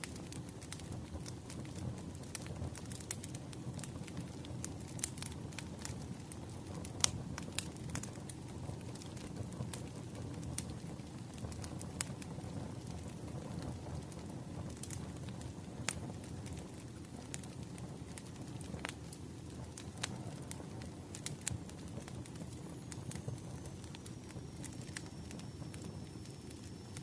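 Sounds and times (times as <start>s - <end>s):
fire pops and snaps: 0.0s - 27.0s
wood fire crackling: 0.0s - 27.0s.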